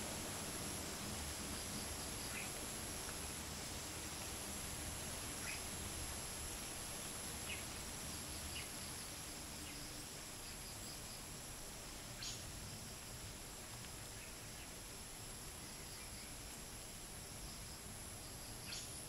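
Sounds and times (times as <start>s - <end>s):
crickets and cicadas droning: 0.0s - 19.0s
light wind rumble: 0.0s - 19.0s.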